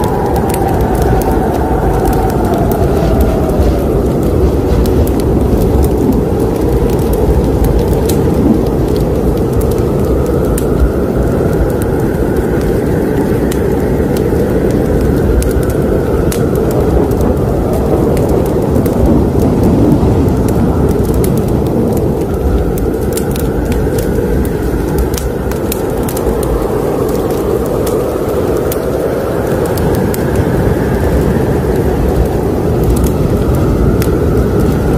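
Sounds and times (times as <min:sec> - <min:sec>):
burning wood crackling and popping: 0:00.0 - 0:34.9
low roar of flames: 0:00.0 - 0:34.9.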